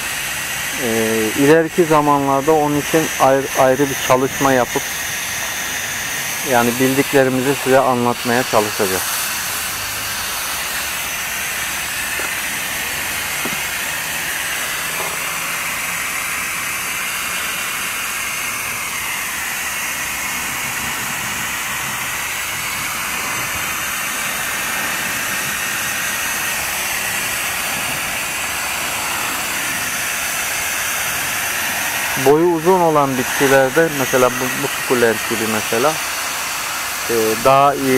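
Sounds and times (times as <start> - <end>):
hose nozzle spraying water: 0.0 - 37.9.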